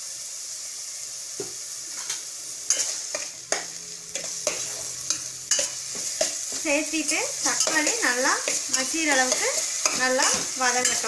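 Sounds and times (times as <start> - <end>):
vegetables sizzling in hot oil: 0.0 - 11.0
spoon scraping a pan: 1.9 - 11.0.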